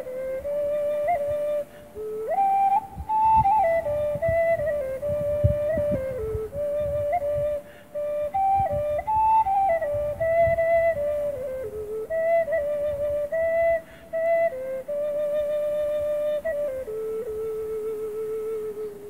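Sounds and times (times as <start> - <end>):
ocarina playing slow melody: 0.0 - 19.0
wind buffeting microphone: 0.0 - 19.0.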